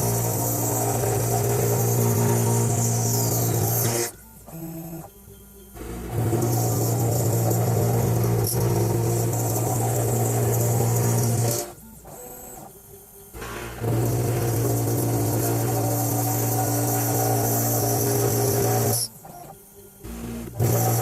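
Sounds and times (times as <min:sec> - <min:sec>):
machine motor hum with hiss: 0:00.0 - 0:05.2, 0:05.8 - 0:21.0.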